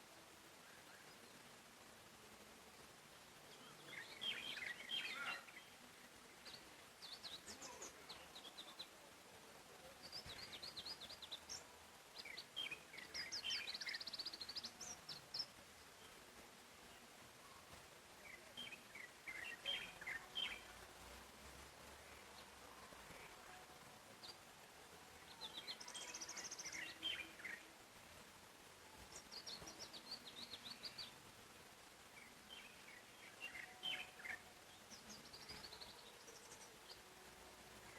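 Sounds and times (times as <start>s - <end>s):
faint steady hiss: 0.0s - 37.9s
songbirds chirping: 0.0s - 37.9s.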